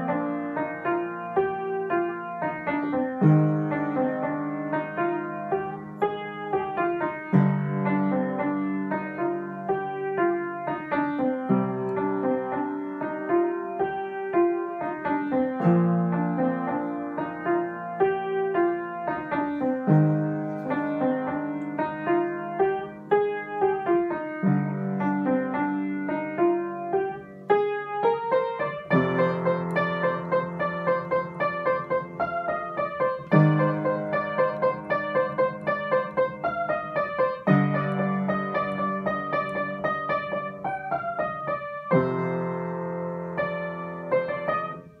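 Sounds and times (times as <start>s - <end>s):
upright piano playing: 0.0s - 45.0s.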